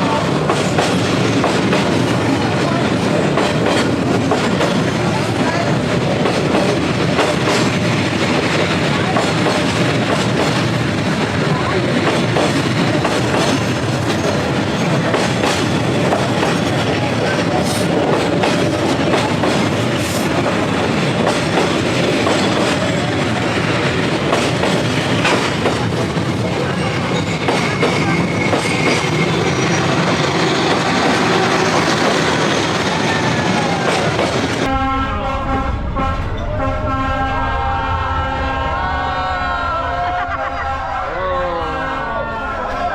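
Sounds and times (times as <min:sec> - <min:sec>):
train wheels rumbling and clattering: 0:00.0 - 0:41.0
people's voices: 0:00.0 - 0:42.9.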